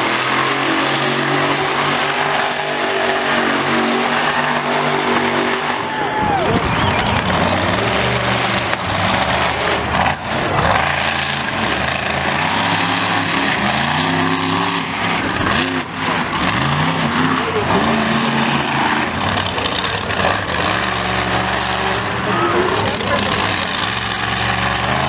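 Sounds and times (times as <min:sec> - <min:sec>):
engine revving: 0:00.0 - 0:25.0
roar of engines: 0:00.0 - 0:25.0.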